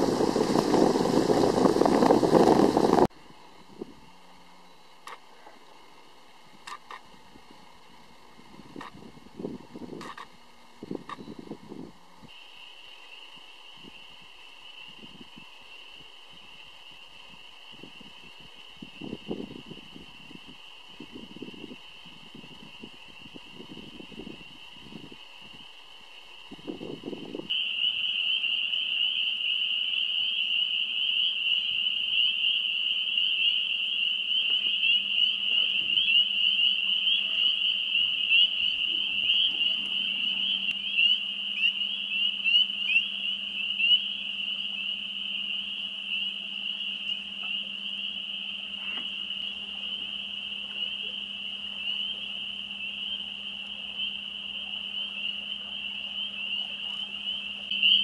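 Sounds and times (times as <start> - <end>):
spring peepers chorus: 8.5 - 58.0.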